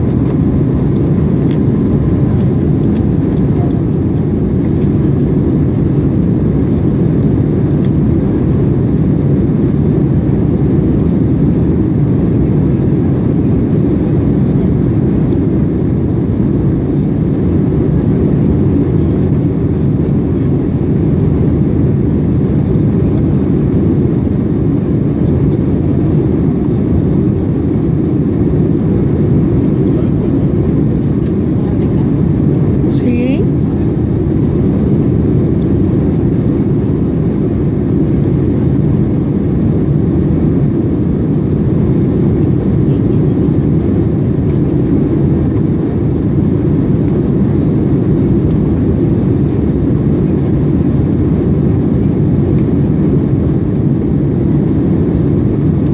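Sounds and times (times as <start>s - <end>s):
airliner engines rumbling: 0.0s - 55.9s.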